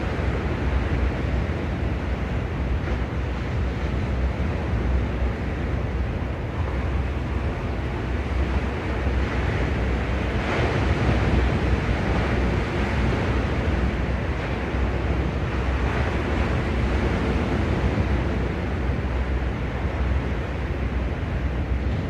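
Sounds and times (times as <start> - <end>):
sea waves washing onto shore: 0.0 - 22.0
wind rumble on microphone: 0.0 - 22.0.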